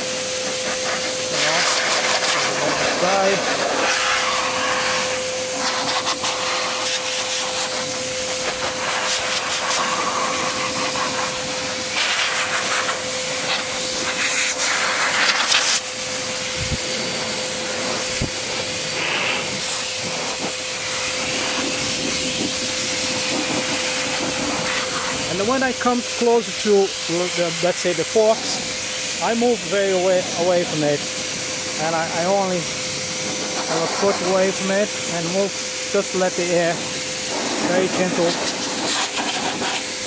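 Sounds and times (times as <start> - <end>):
blower blasting air: 0.0 - 40.0
motor whine: 0.0 - 40.0.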